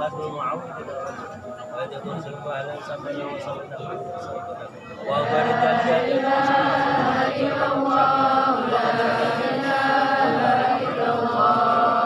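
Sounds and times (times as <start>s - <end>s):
group chanting prayers in unison: 0.0s - 12.0s.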